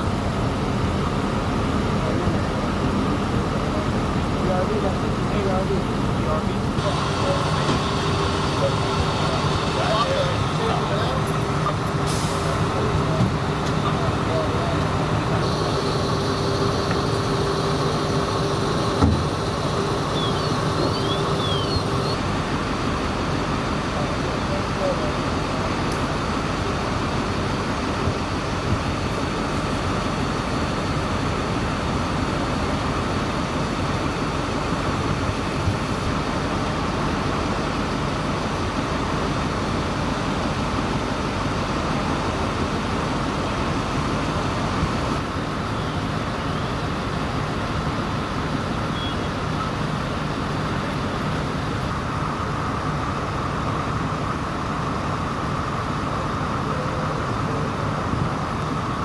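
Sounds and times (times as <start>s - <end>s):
vehicle engines running: 0.0s - 59.0s.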